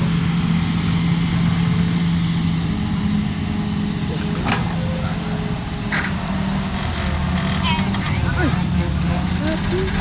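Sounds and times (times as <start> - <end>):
excavator diesel engine drone: 0.0 - 10.0.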